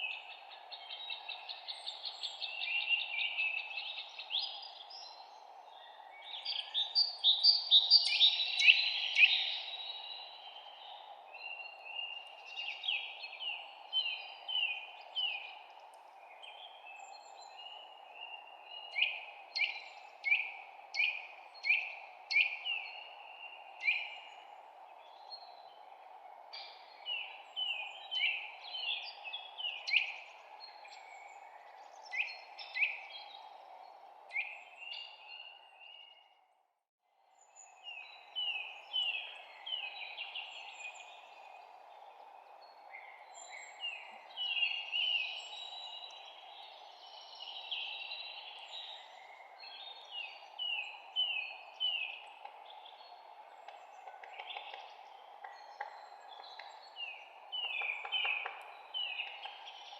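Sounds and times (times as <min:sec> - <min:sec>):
songbirds chirping and singing: 0:00.0 - 0:36.3, 0:37.4 - 0:59.9.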